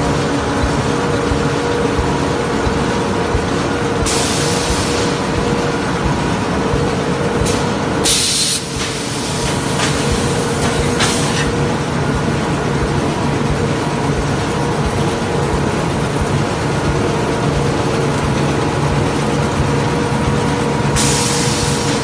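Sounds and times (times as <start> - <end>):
factory machinery droning: 0.0 - 22.0.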